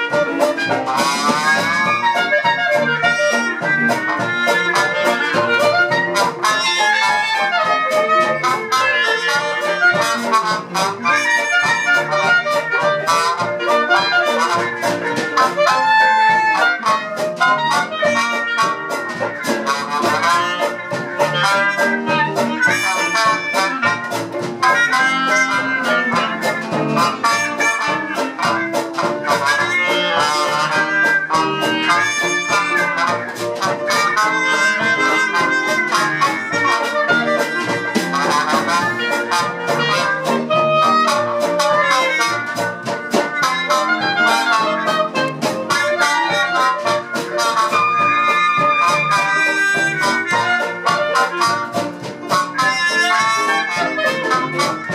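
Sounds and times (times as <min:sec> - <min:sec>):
clarinet: 0:00.0 - 0:54.9
double bass: 0:00.0 - 0:54.9
drums keeping a steady beat: 0:00.0 - 0:54.9
piano: 0:00.0 - 0:54.9
trombone: 0:00.0 - 0:54.9
trumpet: 0:00.0 - 0:54.9.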